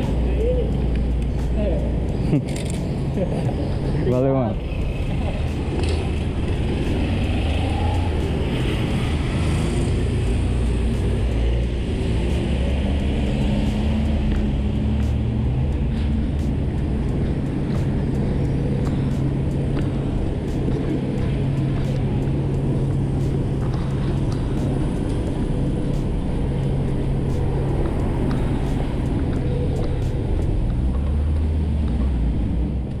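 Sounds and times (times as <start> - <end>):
traffic rumble of car engines: 0.0 - 33.0.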